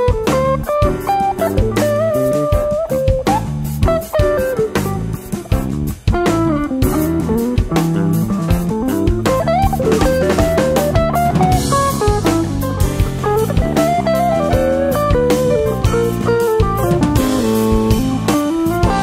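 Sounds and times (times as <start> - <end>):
bass guitar: 0.0 - 19.0
drum kit: 0.0 - 19.0
electric guitar melody: 0.0 - 19.0.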